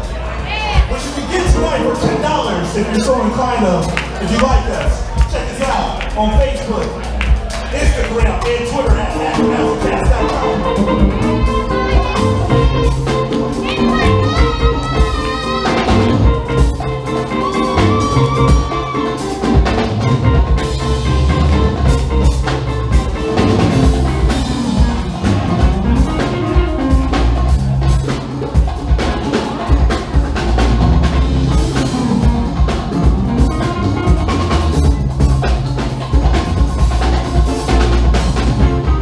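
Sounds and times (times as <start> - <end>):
drum kit: 0.0 - 39.0
funk band playing live: 0.0 - 39.0.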